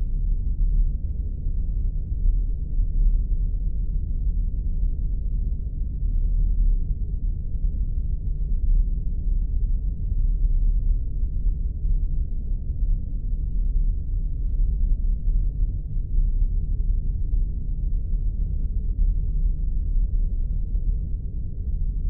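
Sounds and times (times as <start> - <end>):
deep spaceship engine rumble: 0.0 - 22.0.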